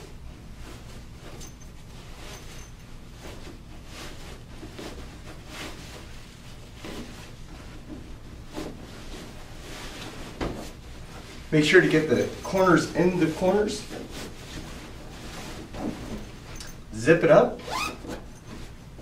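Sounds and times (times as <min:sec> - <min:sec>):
fabric rustling and swishing: 0:00.1 - 0:16.9.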